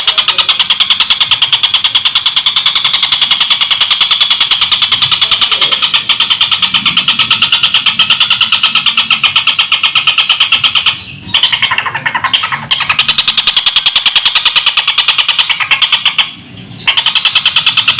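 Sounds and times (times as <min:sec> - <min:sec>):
kingfisher cackling rattle: 0:00.0 - 0:17.9.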